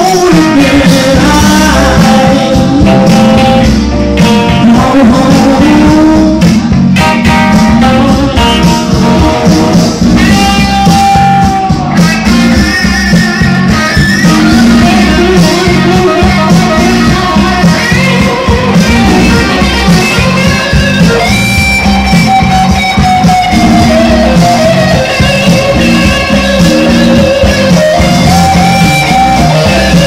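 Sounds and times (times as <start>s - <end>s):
electric guitar solo: 0.0s - 30.0s
rhythm backing music: 0.0s - 30.0s.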